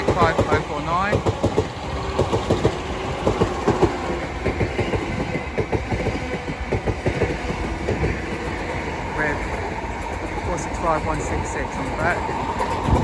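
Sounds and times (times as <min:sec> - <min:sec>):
train low rumble: 0:00.0 - 0:13.0
wheels clicking over rail joints: 0:00.0 - 0:13.0.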